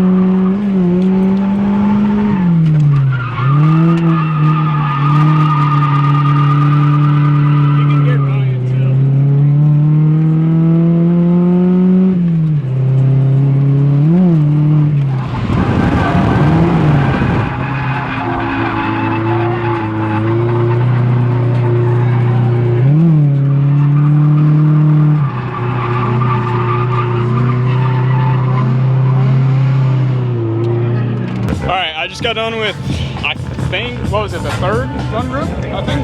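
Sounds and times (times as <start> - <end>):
tires squealing and skidding: 0.0 - 8.9, 14.9 - 36.0
car engine at high revs: 0.0 - 36.0.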